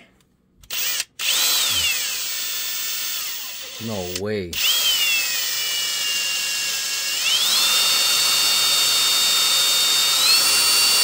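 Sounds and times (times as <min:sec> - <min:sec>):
cordless drill whining under load: 0:00.7 - 0:11.0.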